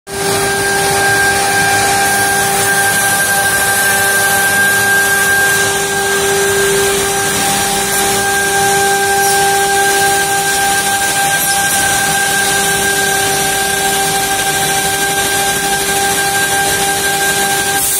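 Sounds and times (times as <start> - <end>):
high motor whine: 0.1 - 17.9.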